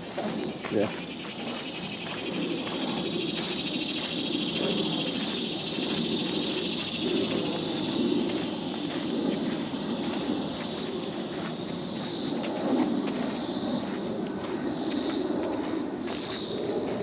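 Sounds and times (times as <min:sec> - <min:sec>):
footsteps on dirt trail: 0:00.0 - 0:17.0
insects buzzing: 0:00.0 - 0:17.0.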